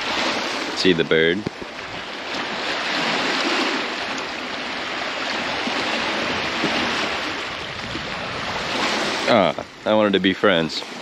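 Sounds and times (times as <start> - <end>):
waves washing onto shore: 0.0 - 11.0.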